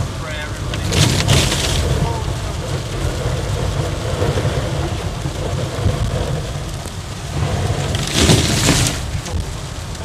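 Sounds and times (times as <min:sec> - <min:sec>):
hail drumming on car roof: 0:00.0 - 0:10.0
low road rumble: 0:00.0 - 0:10.0
wiper swish on windshield: 0:00.5 - 0:09.9.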